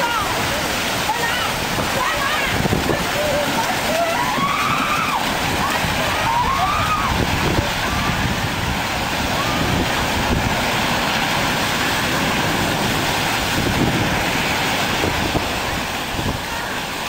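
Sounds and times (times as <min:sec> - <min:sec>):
surf breaking and rushing: 0:00.0 - 0:17.0
wind buffeting microphone: 0:00.0 - 0:17.0.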